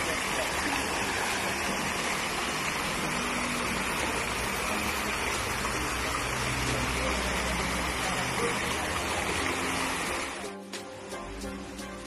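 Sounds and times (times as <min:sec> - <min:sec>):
thin water jets falling into basin: 0:00.0 - 0:10.4
water pouring from fountain bowls: 0:00.0 - 0:10.5.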